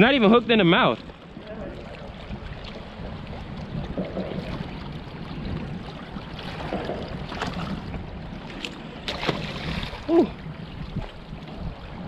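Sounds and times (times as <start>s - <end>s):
moving water: 0.0s - 12.0s.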